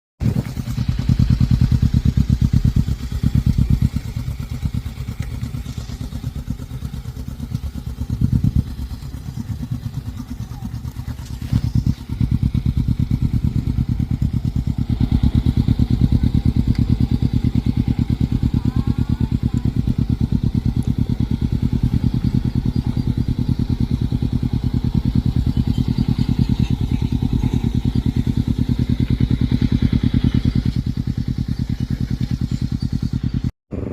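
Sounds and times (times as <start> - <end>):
motorcycle engine at low revs: 0.2 - 33.9.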